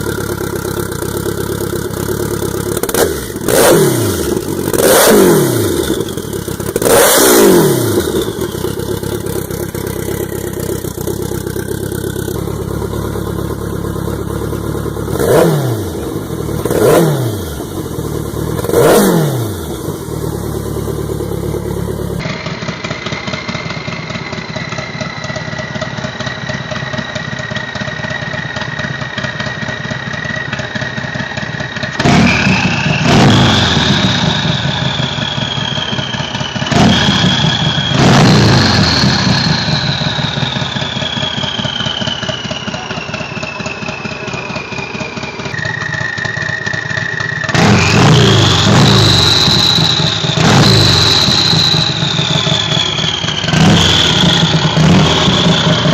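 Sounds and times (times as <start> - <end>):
engine idling with high whine: 0.0 - 55.9
motorcycle engine revving: 0.0 - 55.9.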